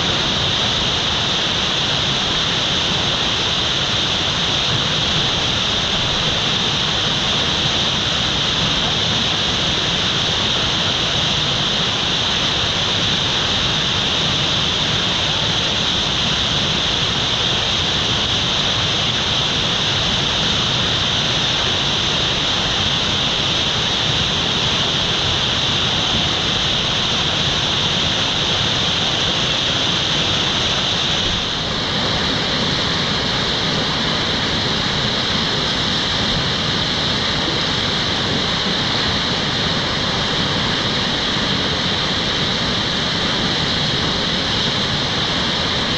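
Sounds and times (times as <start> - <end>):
whitewater rushing: 0.0 - 45.9.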